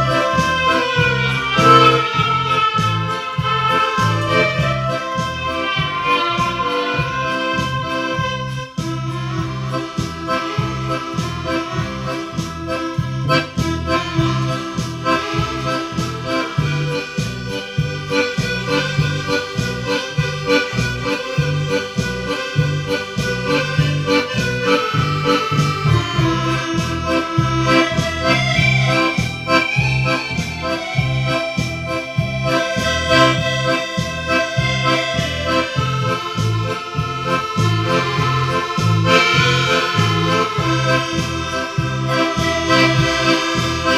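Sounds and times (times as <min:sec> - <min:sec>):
accordion music: 0:00.0 - 0:43.9
steady bass beat: 0:00.0 - 0:43.9.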